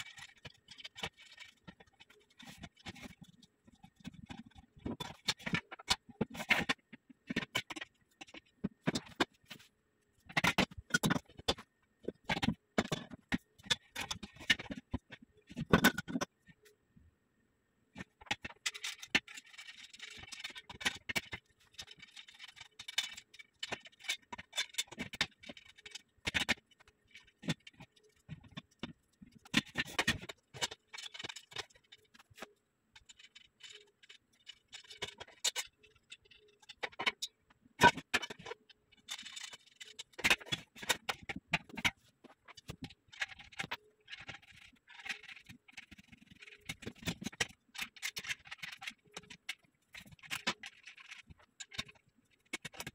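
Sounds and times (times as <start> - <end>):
metal parts clicking and knocking: 0.0 - 9.6, 10.2 - 16.6, 18.0 - 52.9.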